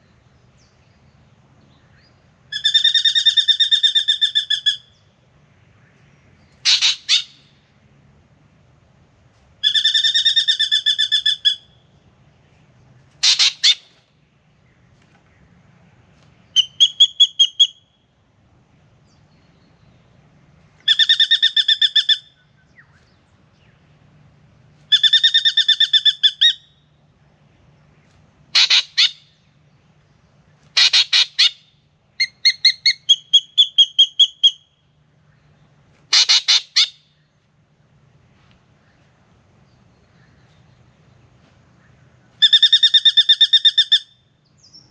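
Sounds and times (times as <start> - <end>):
bird singing: 0.0 - 7.7, 9.6 - 15.6, 16.4 - 18.2, 19.0 - 24.1, 24.9 - 37.5, 38.8 - 44.9.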